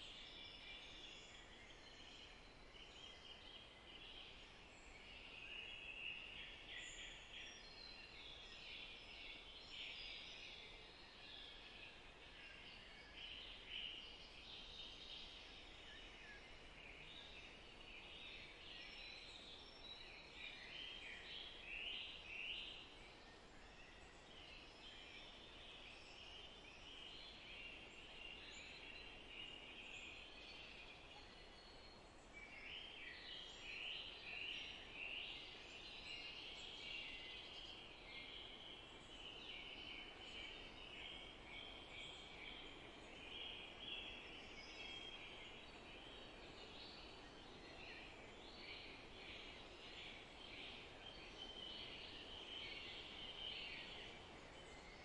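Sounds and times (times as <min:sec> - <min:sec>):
small birds chirping: 0:00.0 - 0:55.0
soft hiss: 0:00.0 - 0:55.0.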